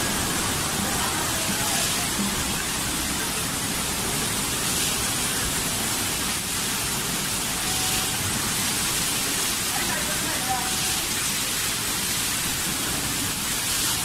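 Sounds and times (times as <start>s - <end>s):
heavy wind-driven rain: 0.0s - 14.0s.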